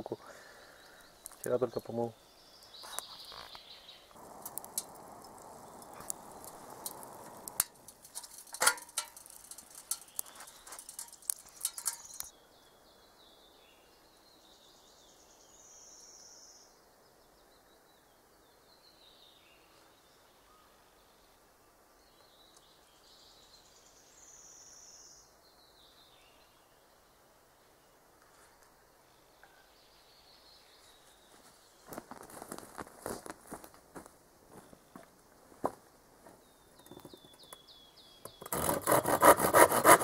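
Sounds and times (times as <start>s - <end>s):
songbird singing: 0.0s - 32.3s, 34.5s - 39.2s.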